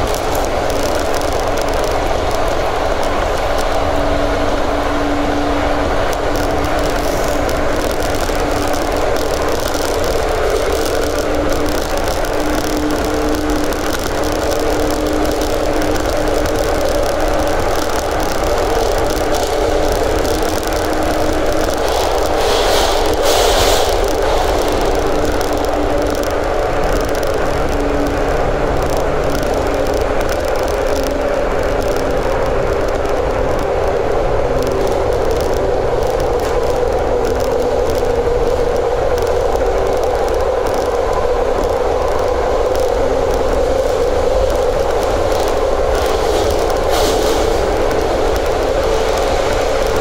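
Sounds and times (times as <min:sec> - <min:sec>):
train hum: 0:00.0 - 0:50.0
wheel-on-rail rumble: 0:00.0 - 0:50.0.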